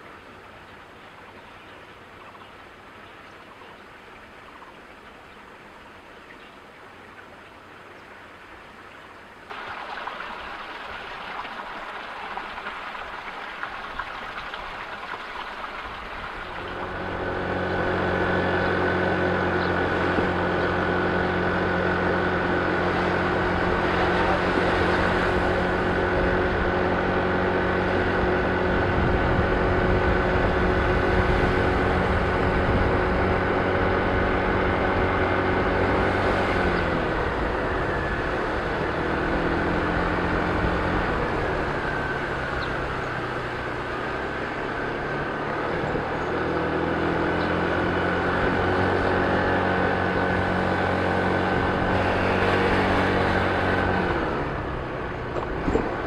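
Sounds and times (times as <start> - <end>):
wind and road noise: 0.0 - 56.0
scooter engine cruising: 9.5 - 56.0.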